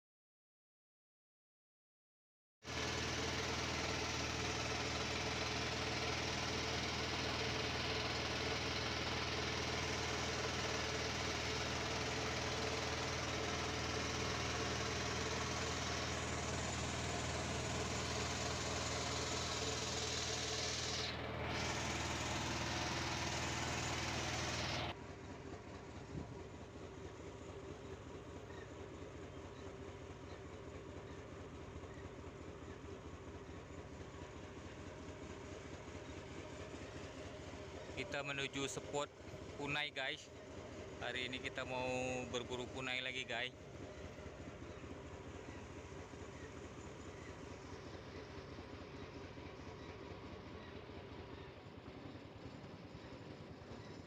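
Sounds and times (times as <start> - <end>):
engine running steadily: 2.6 - 54.0
rattling vehicle: 2.7 - 54.0.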